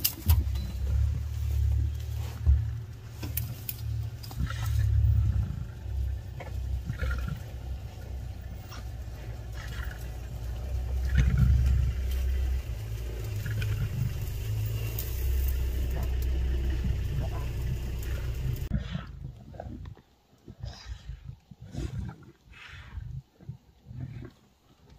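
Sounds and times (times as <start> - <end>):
continuous low rumble: 0.0 - 24.9.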